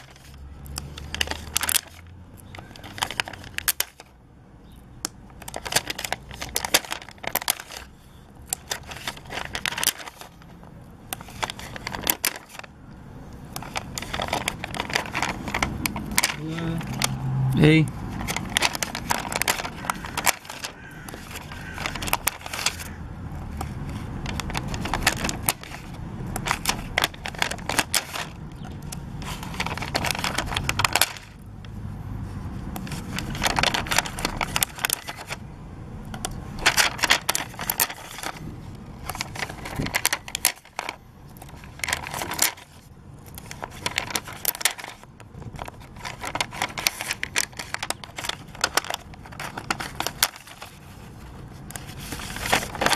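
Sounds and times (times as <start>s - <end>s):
sticker sheet crackling and crinkling: 0.0s - 4.2s, 5.0s - 52.9s.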